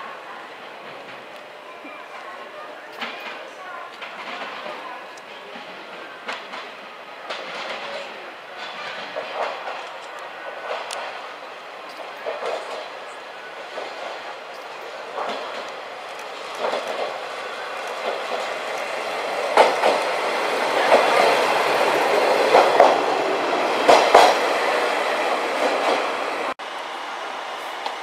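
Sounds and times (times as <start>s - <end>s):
railcar running sound: 0.0s - 28.0s
train wheels clacking over rail joints: 2.9s - 11.3s, 11.9s - 26.6s.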